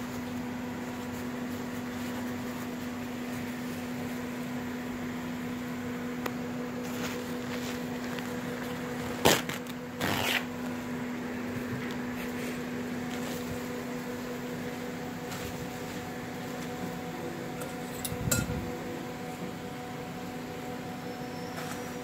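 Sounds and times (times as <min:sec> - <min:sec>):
appliance hum: 0:00.0 - 0:22.0.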